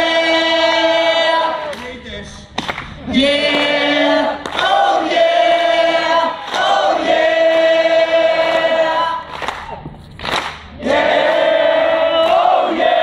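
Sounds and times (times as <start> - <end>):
audience singing in unison: 0.0 - 1.8, 3.0 - 9.4, 10.7 - 13.0.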